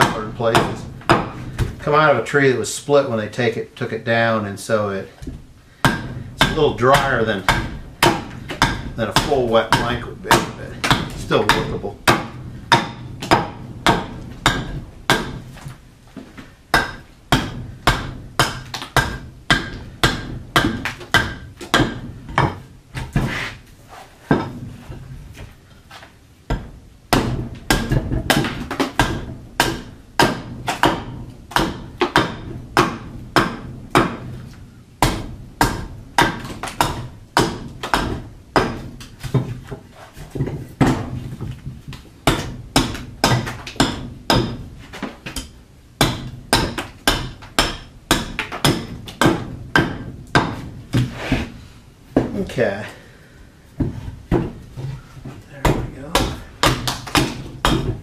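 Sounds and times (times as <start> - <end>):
axe chopping into wood: 0.0 - 1.8, 5.2 - 15.8, 16.8 - 23.6, 26.5 - 41.5, 42.2 - 51.5, 53.8 - 54.6, 55.6 - 58.0.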